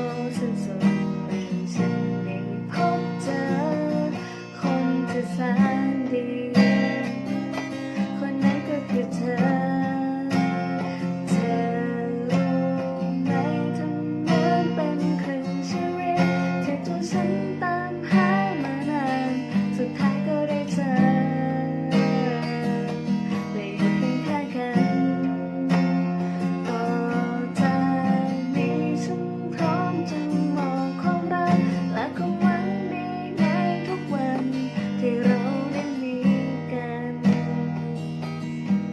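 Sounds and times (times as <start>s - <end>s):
strummed acoustic guitar: 0.0s - 38.9s
woman singing a slow ballad: 0.0s - 38.9s.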